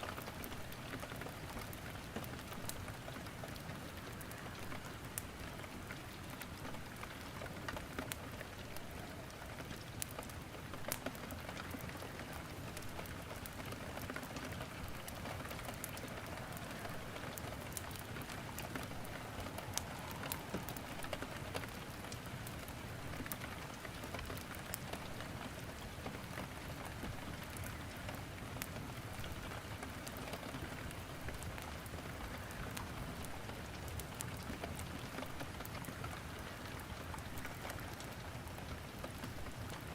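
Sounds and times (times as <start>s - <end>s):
rain falling: 0.0s - 39.9s
firewood crackling: 0.1s - 39.9s.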